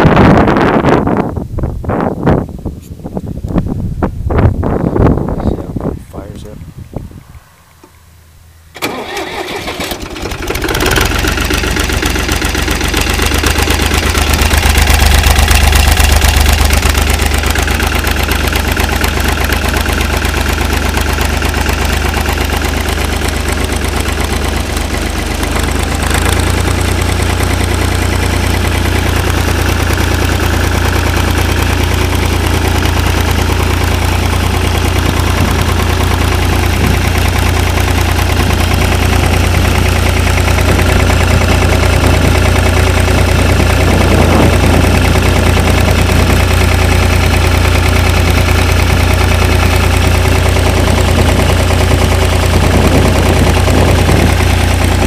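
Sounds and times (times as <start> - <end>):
diesel tractor engine starting: 4.6 - 55.0.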